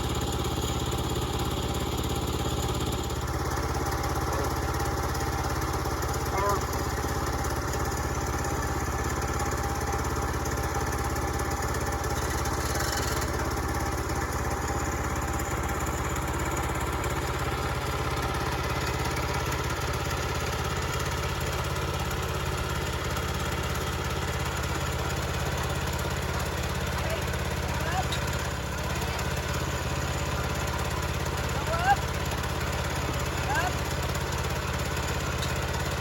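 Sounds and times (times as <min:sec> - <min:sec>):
small gasoline engine running: 0:00.0 - 0:36.0.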